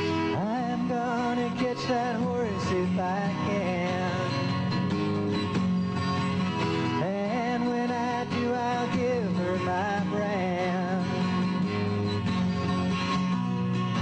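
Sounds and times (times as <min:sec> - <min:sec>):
twelve-string guitar picking: 0:00.0 - 0:14.0.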